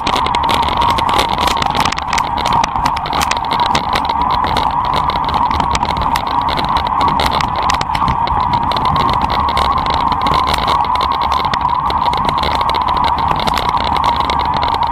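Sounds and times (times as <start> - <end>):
bike clattering over stones: 0.0 - 14.9.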